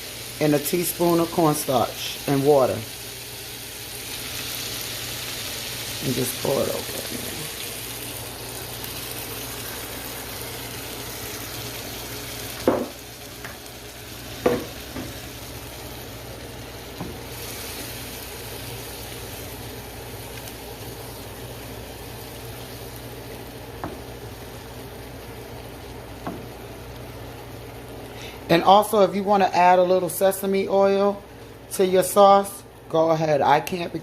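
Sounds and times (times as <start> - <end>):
food sizzling in a pot: 0.0 - 32.6.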